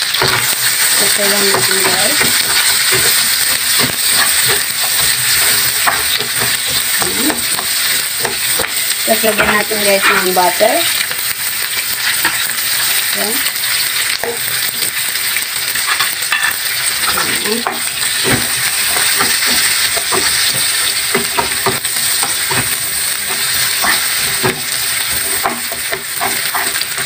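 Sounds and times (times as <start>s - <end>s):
onion and garlic sizzling in oil: 0.0s - 27.0s
spatula scraping a pan: 0.1s - 15.0s, 15.6s - 27.0s.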